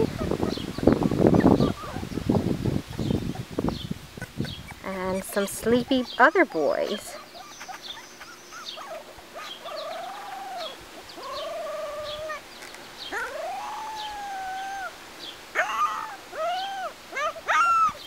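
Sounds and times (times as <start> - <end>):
puppies whining: 0.0 - 2.2, 4.2 - 12.4, 13.0 - 15.0, 15.6 - 18.0.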